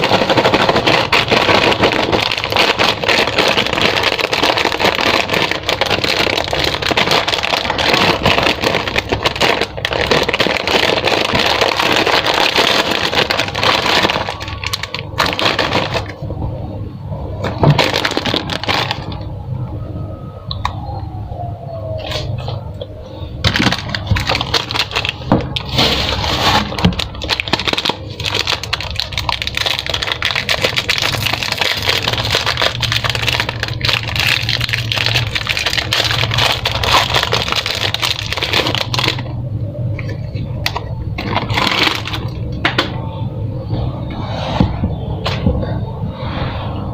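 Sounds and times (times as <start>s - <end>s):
candy wrappers crinkling: 0.0s - 16.3s, 17.5s - 19.3s, 23.4s - 42.9s.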